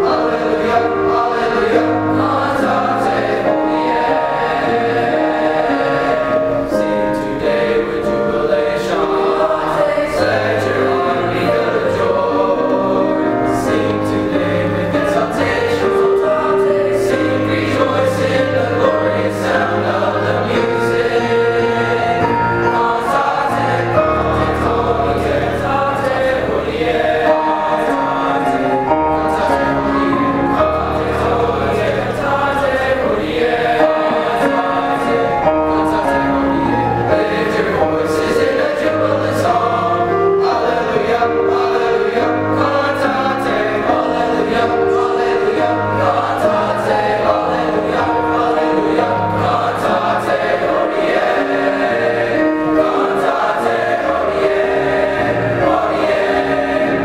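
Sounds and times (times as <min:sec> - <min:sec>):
boys' chorus singing: 0:00.0 - 0:57.0
piano accompaniment: 0:00.0 - 0:57.0.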